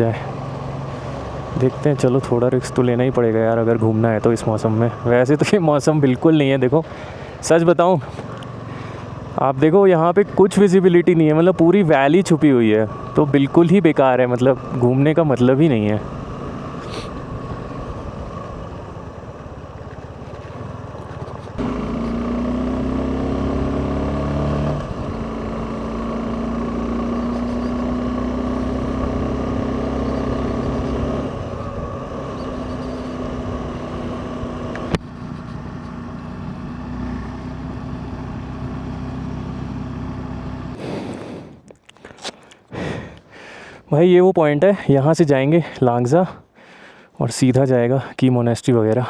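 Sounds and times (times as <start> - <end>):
motorcycle engine running: 0.0 - 41.3
road and wind noise: 0.0 - 44.0.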